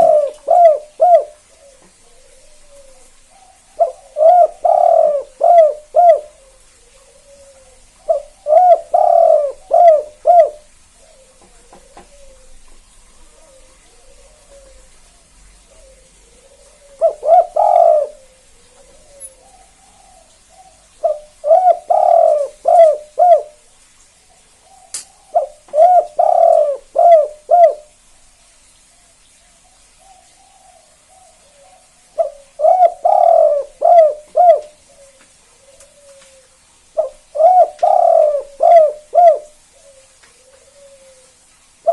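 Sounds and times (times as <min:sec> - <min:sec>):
dove cooing: 0:00.0 - 0:23.7, 0:24.6 - 0:28.0, 0:30.0 - 0:41.9.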